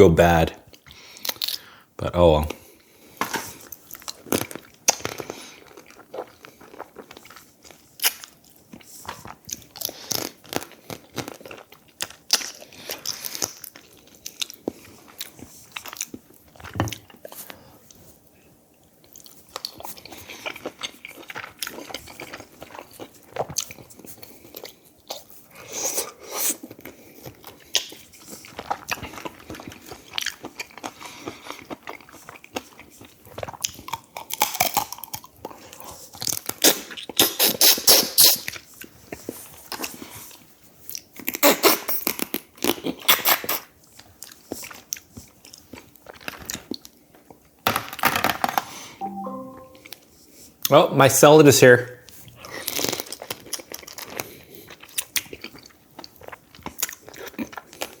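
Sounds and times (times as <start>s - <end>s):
crunching and chewing food: 0.7s - 1.7s, 2.5s - 47.6s, 52.0s - 58.0s.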